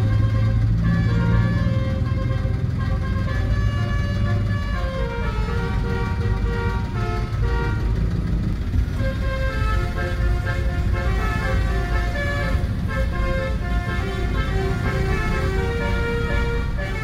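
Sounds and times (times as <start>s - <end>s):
engine and traffic rumble: 0.0s - 17.0s
multi-tone air horn melody: 0.0s - 17.0s.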